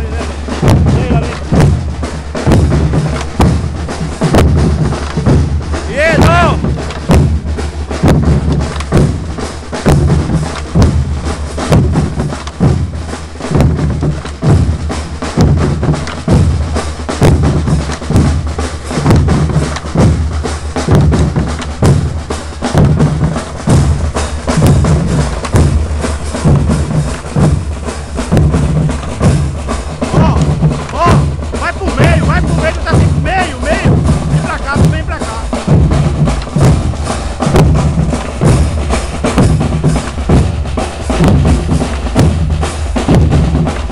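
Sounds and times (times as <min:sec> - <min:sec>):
bass drums: 0:00.0 - 0:43.9
snare drums: 0:00.0 - 0:43.9.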